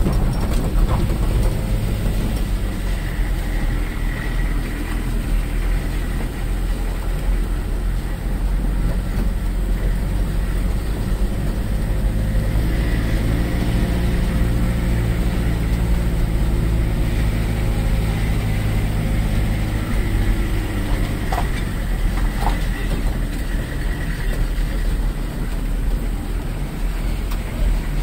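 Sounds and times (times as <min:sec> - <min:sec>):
car engine rumbling from inside: 0:00.0 - 0:28.0.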